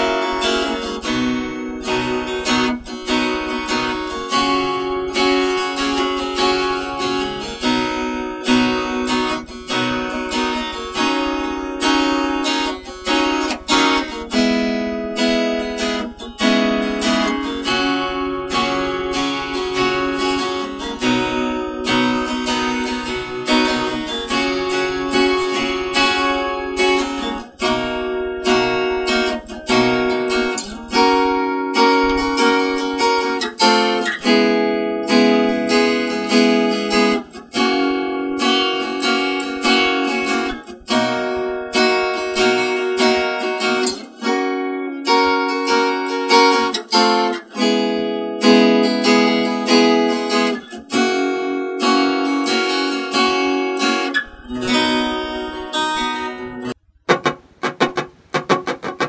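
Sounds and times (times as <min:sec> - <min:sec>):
acoustic guitar strumming chords: 0:00.0 - 0:59.0.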